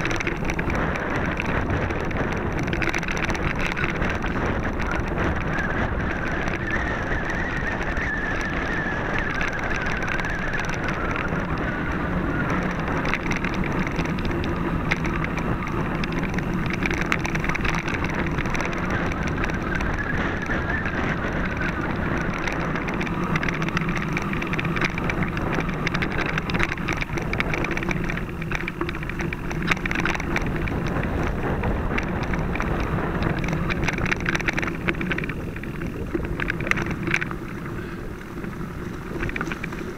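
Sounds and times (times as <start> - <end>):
bike rattling and clicking: 0.0 - 39.9
bike tyres rumbling on gravel: 0.0 - 39.9.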